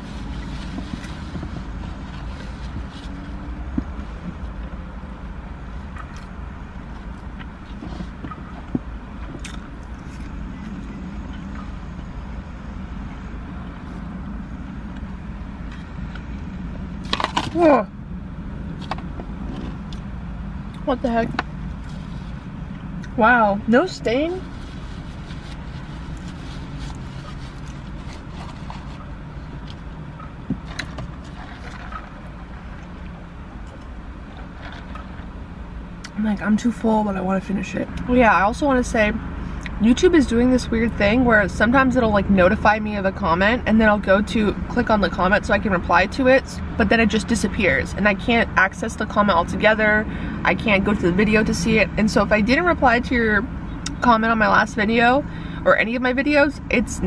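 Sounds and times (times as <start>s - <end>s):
car engine idling: 0.0s - 56.9s
air conditioning running: 0.0s - 57.0s
steady low cabin hum: 0.0s - 57.0s.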